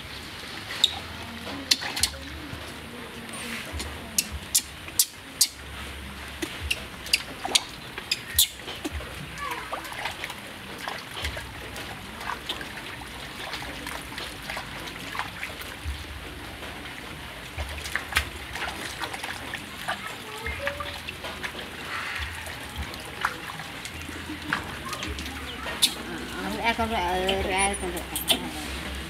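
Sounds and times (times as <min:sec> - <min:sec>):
water splashing in metal basin: 0:00.0 - 0:29.0.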